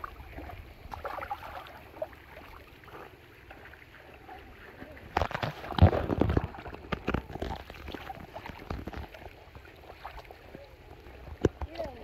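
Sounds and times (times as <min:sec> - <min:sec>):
splashing in shallow water: 0:00.0 - 0:12.0.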